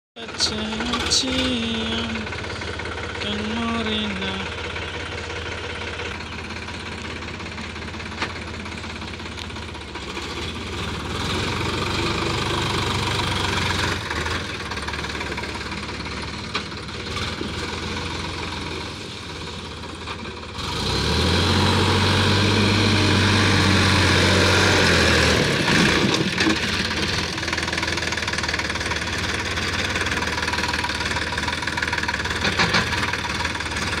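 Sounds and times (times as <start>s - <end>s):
rotavator tilling ground: 0.2s - 34.0s
tractor diesel engine running: 0.2s - 34.0s.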